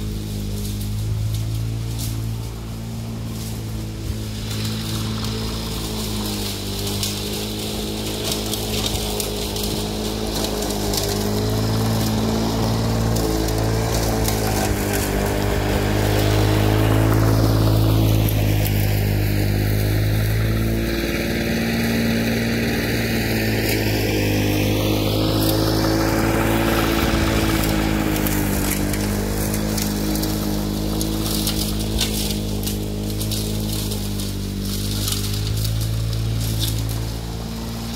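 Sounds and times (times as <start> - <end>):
lawn mower engine running: 0.0 - 37.9.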